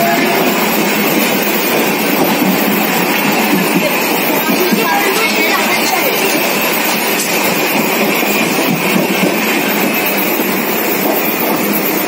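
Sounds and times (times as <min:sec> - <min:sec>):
train wheels running: 0:00.0 - 0:12.0.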